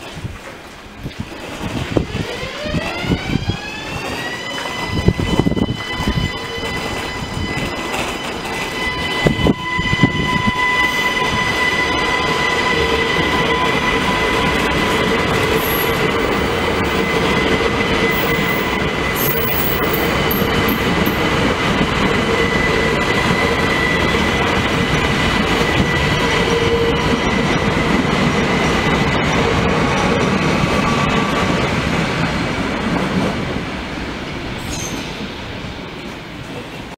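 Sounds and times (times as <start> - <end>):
train wheels rolling on rails: 0.0 - 36.9
electric train whine: 0.4 - 36.9.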